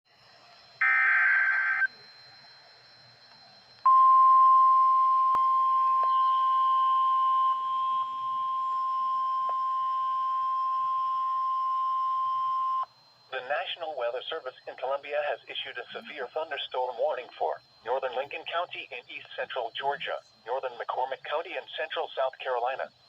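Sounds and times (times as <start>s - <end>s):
steady high beep: 0.8s - 20.2s.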